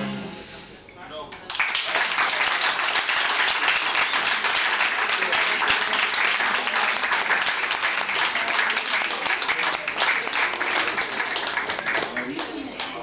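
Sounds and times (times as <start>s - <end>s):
audience applauding: 1.4s - 13.0s.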